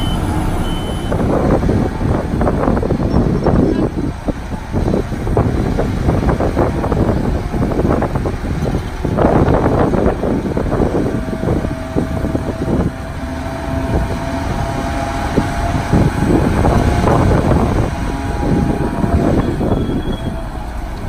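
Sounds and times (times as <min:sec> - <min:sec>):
diesel engine running: 0:00.0 - 0:21.0
steady whine: 0:00.0 - 0:21.0
dirt rumbling and clattering: 0:00.3 - 0:21.0.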